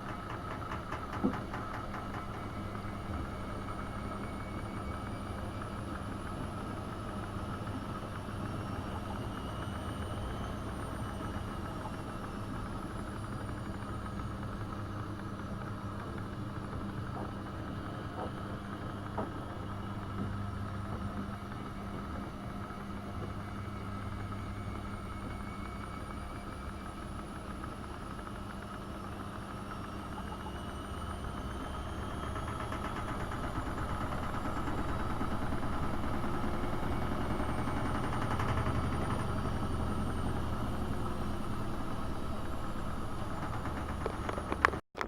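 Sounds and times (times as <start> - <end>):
washing machine motor hum: 0.0 - 44.8.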